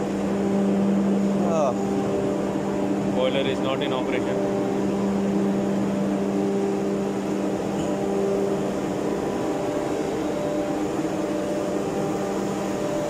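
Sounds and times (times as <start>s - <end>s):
engine room machinery hum: 0.0s - 13.0s.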